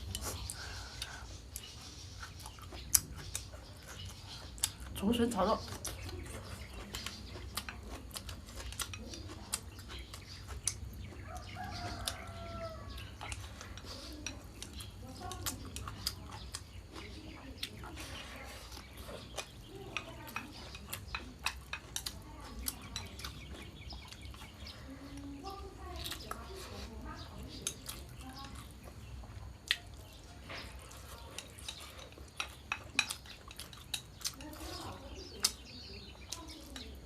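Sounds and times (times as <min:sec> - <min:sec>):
chewing: 0:00.0 - 0:37.0.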